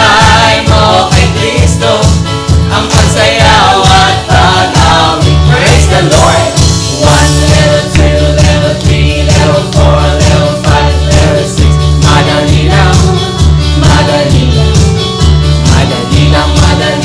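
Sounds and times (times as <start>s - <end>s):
voices singing: 0.0s - 17.0s
worship band music: 0.0s - 17.0s.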